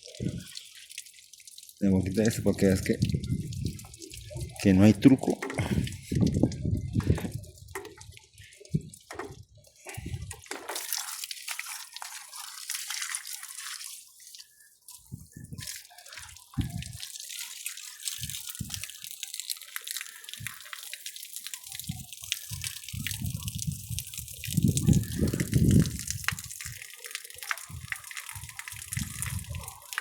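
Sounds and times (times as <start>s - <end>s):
water pouring and splashing: 0.0s - 30.0s.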